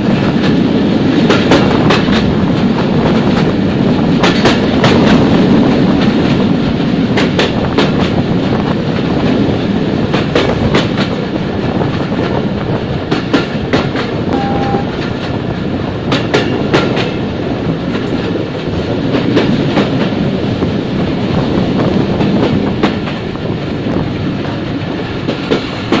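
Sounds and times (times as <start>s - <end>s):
train rumble: 0.0s - 26.0s
wheels clacking over rail joints: 0.0s - 26.0s.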